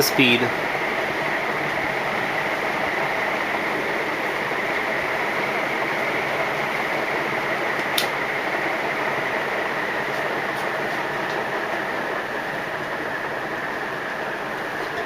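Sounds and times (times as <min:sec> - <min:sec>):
ceiling fan rushing: 0:00.0 - 0:15.0.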